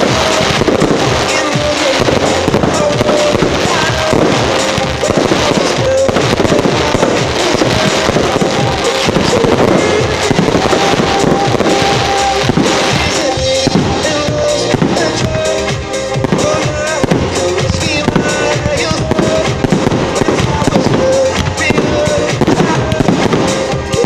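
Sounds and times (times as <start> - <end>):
fireworks bangs and crackling: 0.0 - 24.0
music: 0.0 - 24.0.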